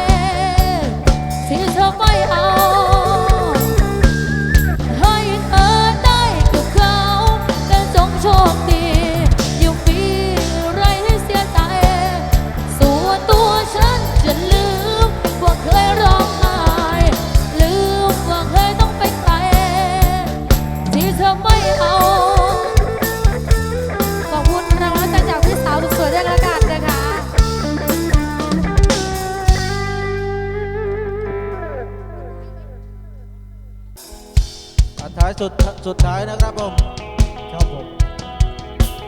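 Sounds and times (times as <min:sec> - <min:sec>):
drum kit beat: 0:00.0 - 0:31.0, 0:34.0 - 0:39.0
wavering lead melody: 0:00.0 - 0:39.0.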